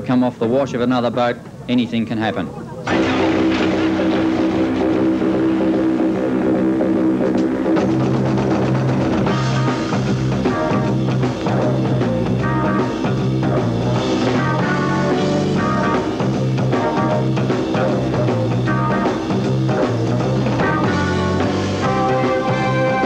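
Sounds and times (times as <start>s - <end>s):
rock music with steady beat: 2.9s - 23.0s.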